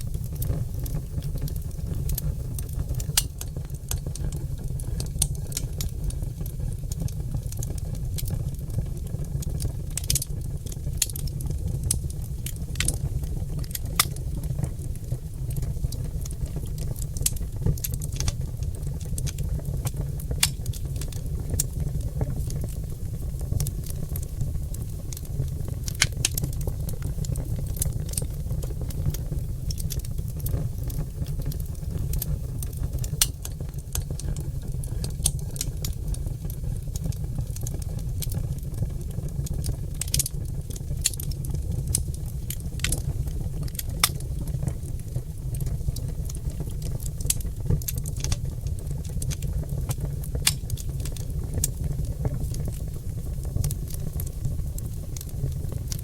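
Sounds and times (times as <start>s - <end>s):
logs crackling and popping in fireplace: 0.0s - 56.0s.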